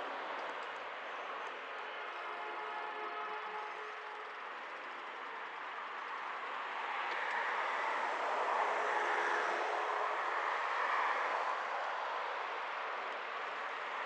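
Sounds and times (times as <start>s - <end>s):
road and wind noise from bicycle: 0.0s - 14.0s.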